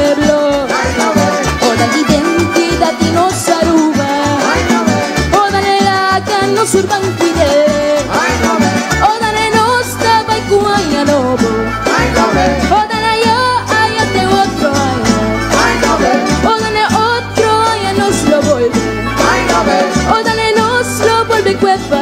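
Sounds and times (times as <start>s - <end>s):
folk band with guitars: 0.0s - 22.0s.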